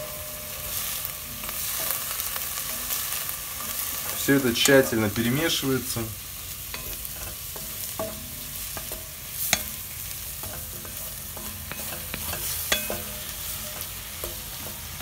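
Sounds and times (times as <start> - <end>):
frying sizzle: 0.0 - 15.0
wooden spatula scraping and knocking pan: 0.0 - 15.0.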